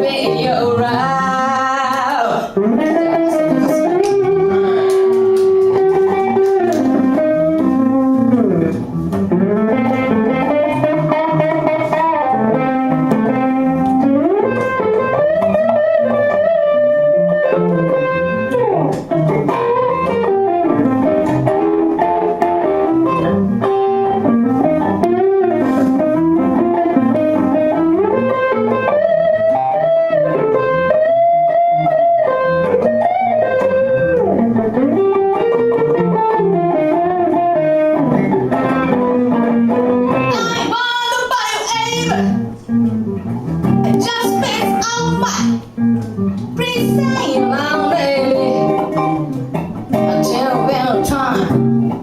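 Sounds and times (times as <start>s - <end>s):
band backing: 0.0s - 52.0s
electric guitar lead melody: 0.0s - 52.0s.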